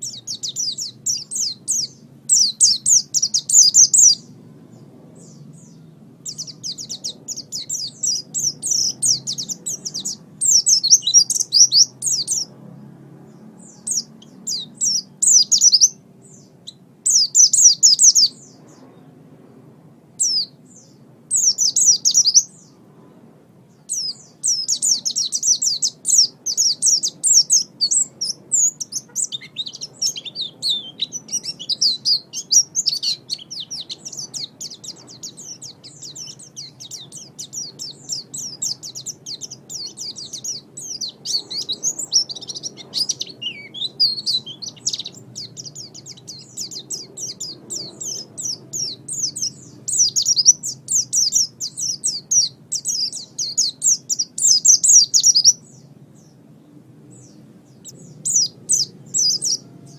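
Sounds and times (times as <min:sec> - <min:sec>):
high-pitched bird twittering: 0:00.0 - 0:04.3, 0:05.2 - 0:12.5, 0:13.6 - 0:18.9, 0:20.2 - 0:22.8, 0:23.8 - 0:55.8, 0:57.2 - 0:59.9.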